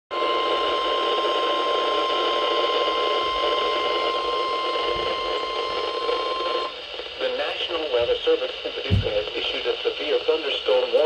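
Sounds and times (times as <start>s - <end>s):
radio hiss: 0.2s - 11.0s.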